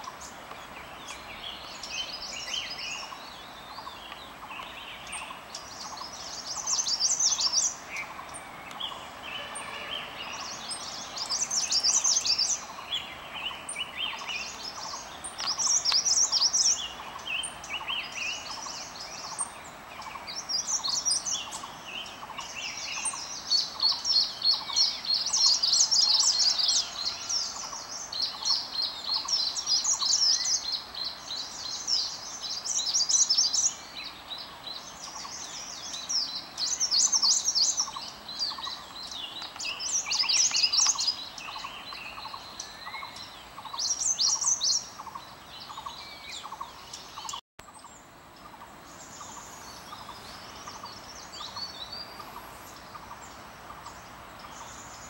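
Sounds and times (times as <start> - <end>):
wild birds singing: 0.0 - 55.0.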